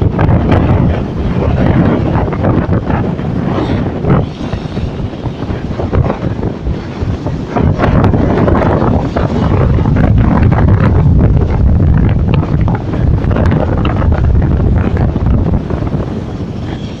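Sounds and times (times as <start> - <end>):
sea waves washing against pier: 0.0 - 17.0
wind buffeting microphone: 0.0 - 17.0.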